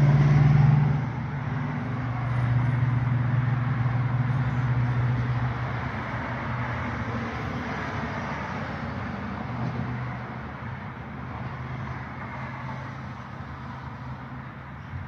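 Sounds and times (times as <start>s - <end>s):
engine hum: 0.0s - 15.0s
road noise rushing: 0.0s - 15.0s.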